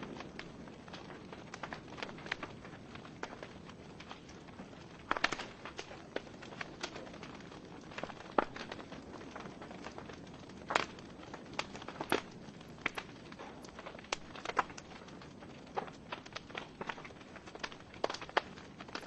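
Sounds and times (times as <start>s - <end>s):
flames hissing: 0.0s - 19.0s
logs crackling and popping: 0.0s - 19.0s.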